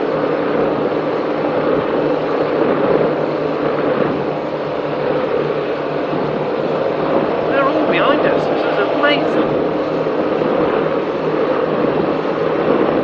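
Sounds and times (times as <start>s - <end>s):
powerboat engines droning: 0.0s - 13.0s
wind and water rushing: 0.0s - 13.0s.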